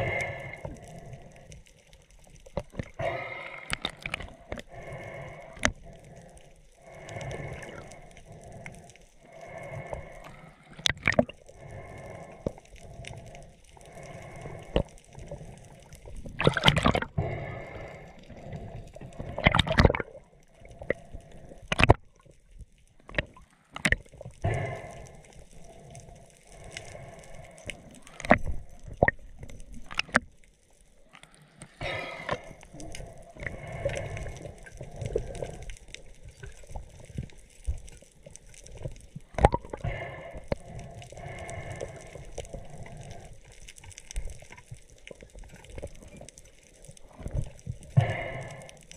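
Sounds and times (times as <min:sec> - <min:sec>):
underwater gurgling and rushing: 0:00.0 - 0:48.9.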